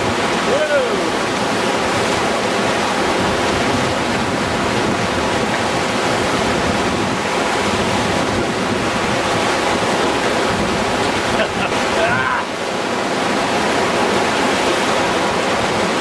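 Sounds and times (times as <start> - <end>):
whitewater rapid rushing: 0.0 - 16.0.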